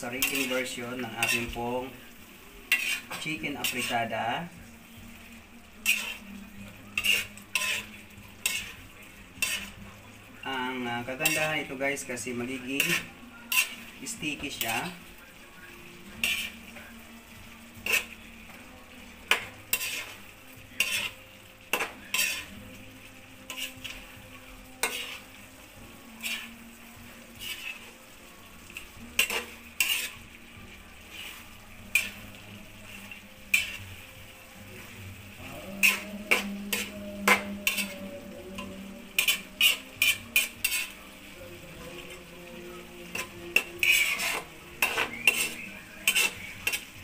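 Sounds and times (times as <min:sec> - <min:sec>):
food sizzling in a pan: 0:00.0 - 0:47.0
metal spatula scraping a wok: 0:00.0 - 0:47.0.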